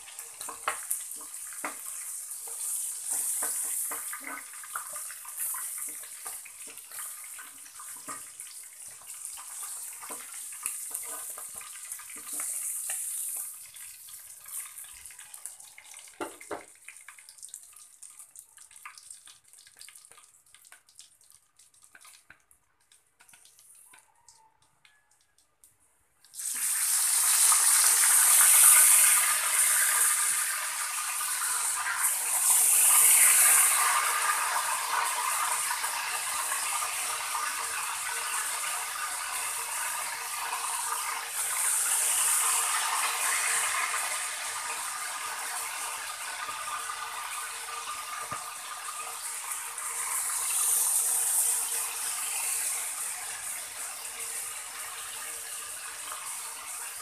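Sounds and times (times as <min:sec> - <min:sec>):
meat sizzling in hot oil: 0:00.0 - 0:18.2, 0:26.4 - 0:57.0.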